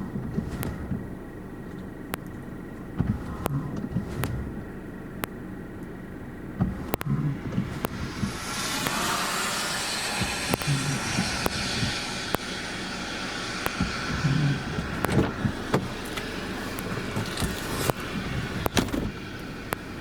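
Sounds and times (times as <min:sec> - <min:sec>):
road noise inside vehicle cabin: 0:00.0 - 0:20.0.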